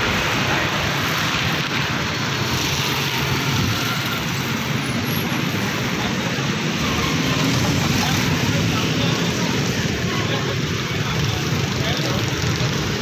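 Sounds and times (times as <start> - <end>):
street noise hiss: 0.0 - 13.0.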